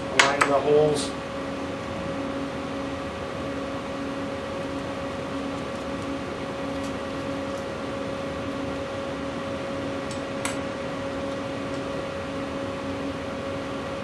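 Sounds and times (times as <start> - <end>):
equipment hum and fan hiss: 0.0 - 14.0.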